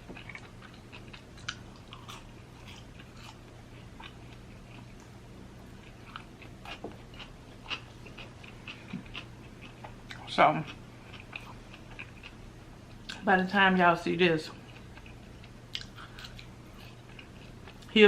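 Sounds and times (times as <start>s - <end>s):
person chewing: 0.0s - 13.2s, 14.5s - 17.9s.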